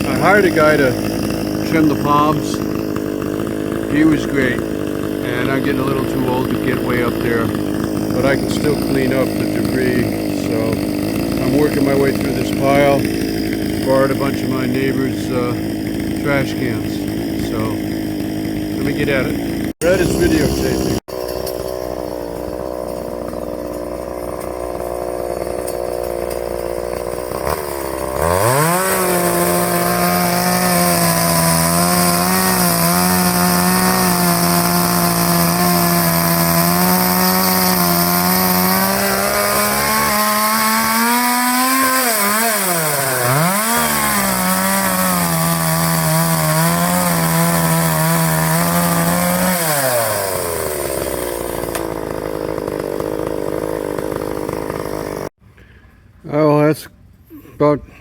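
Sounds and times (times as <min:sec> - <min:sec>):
chainsaw revving and cutting: 0:00.0 - 0:55.4.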